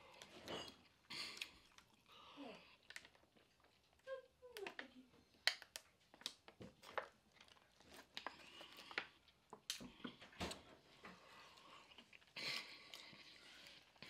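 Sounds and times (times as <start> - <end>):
person chewing and lip smacking: 0.0 - 10.3, 11.2 - 14.0.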